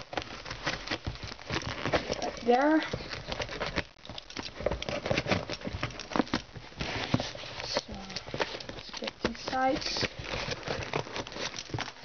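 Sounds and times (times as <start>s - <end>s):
tape and cardboard crinkling: 0.0s - 12.0s
utility knife cutting parcel: 0.0s - 12.0s.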